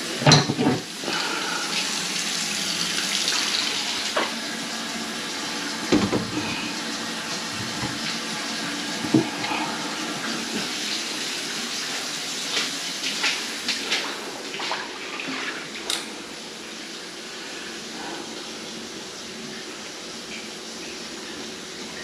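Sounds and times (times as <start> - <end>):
water running from tap: 0.0 - 22.0.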